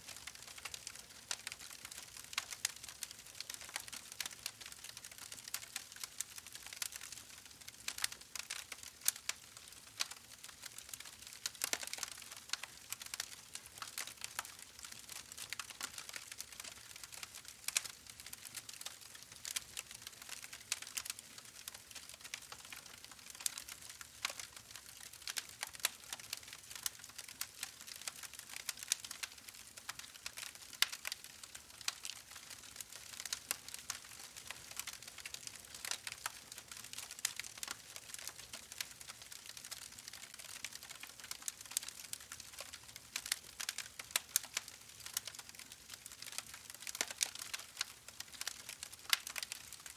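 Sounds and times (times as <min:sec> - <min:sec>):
wood fire crackling and popping: 0:00.1 - 0:49.9.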